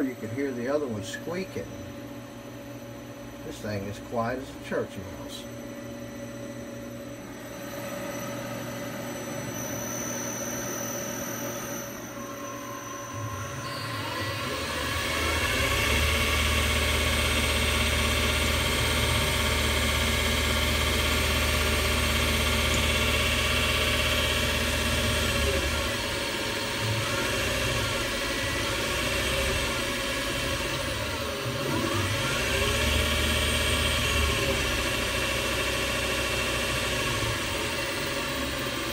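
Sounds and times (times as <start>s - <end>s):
metal lathe motor whine: 0.0s - 38.9s.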